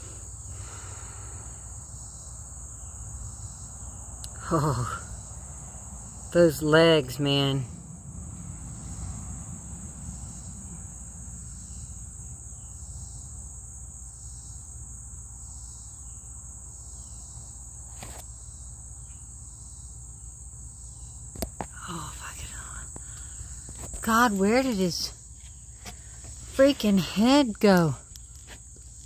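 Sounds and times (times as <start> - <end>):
insect chorus trilling: 0.0 - 29.0.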